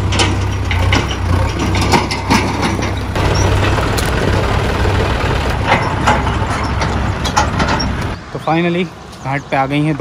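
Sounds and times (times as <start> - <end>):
tyres rolling over gravel: 0.0 - 8.2
diesel engines rumbling: 0.0 - 10.0.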